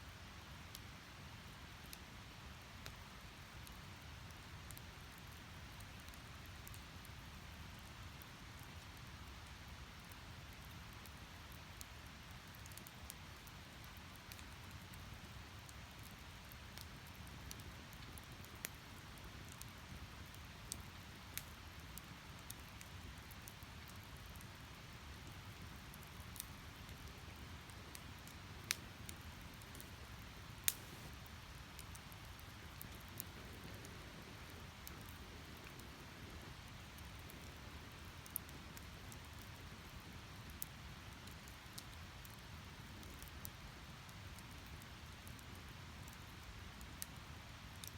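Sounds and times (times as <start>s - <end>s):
fire crackles and pops: 0.1s - 47.9s
wood fire burning: 0.1s - 47.9s.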